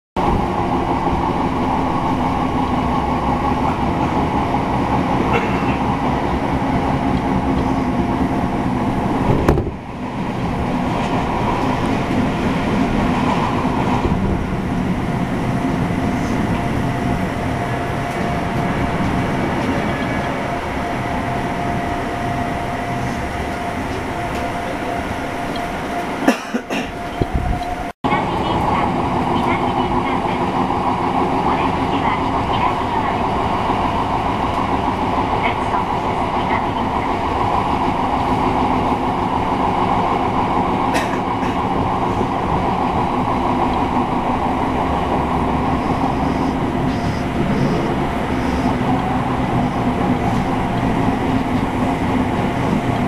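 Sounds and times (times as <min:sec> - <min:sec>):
train jolt: 0:00.2 - 0:53.0
train wheels rumbling on rails: 0:00.2 - 0:53.0.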